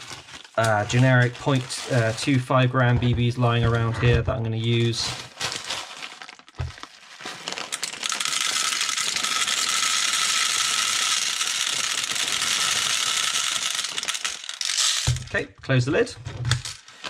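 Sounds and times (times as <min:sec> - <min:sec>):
plastic bbs rattling into loader: 0:00.0 - 0:17.0.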